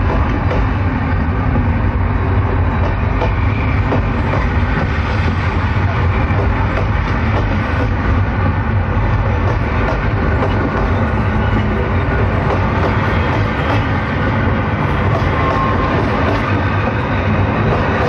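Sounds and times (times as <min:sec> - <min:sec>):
loud steady rumbling: 0:00.0 - 0:18.0.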